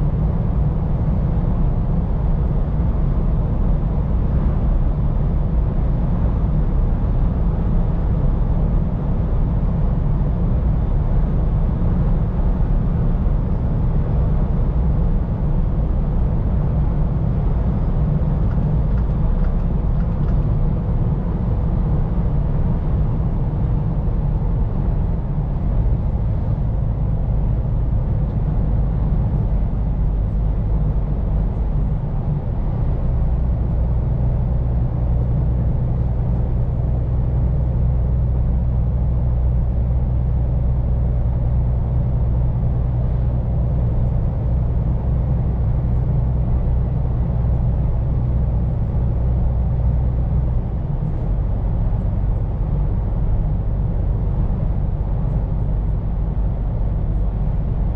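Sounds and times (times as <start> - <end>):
truck engine and road rumble: 0.0 - 57.9.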